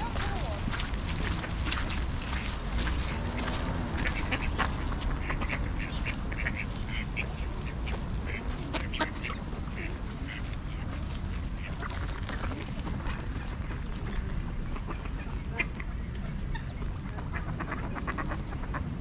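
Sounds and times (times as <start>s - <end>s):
ducks quacking: 0.0s - 19.0s
low steady rumble: 0.0s - 19.0s.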